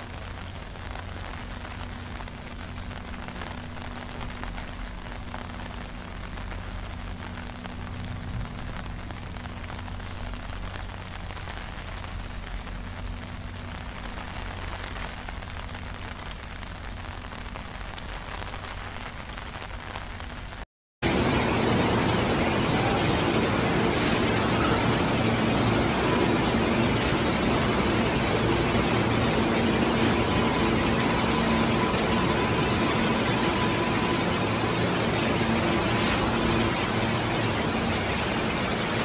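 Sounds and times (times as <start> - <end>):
heavy rain on pavement and water: 0.0 - 39.0.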